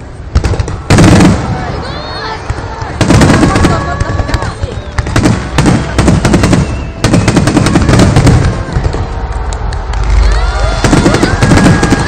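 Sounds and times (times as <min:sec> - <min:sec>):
fireworks booming: 0:00.0 - 0:12.0
fireworks cracking: 0:00.2 - 0:12.0.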